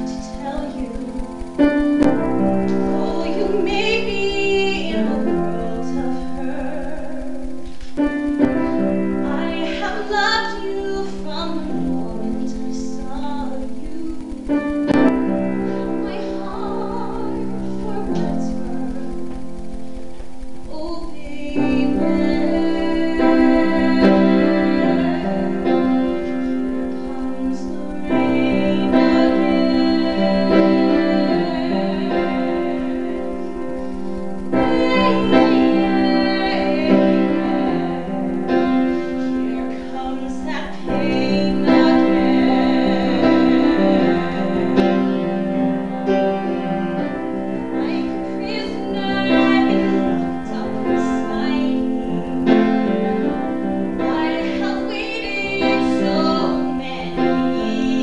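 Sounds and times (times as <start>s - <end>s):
women singing: 0.0s - 1.2s, 2.1s - 19.4s, 20.7s - 58.0s
piano accompaniment: 0.0s - 58.0s.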